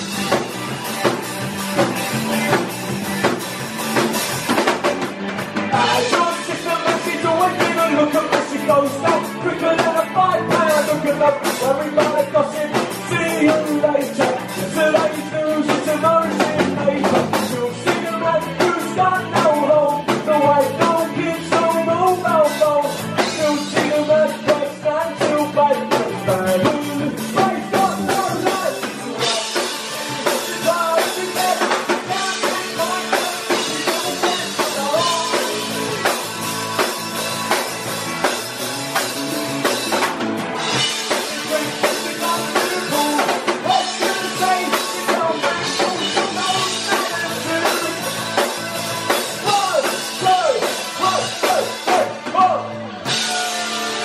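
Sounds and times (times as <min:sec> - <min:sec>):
rock band playing: 0:00.0 - 0:54.0
male lead vocal: 0:05.7 - 0:37.6, 0:40.7 - 0:54.0.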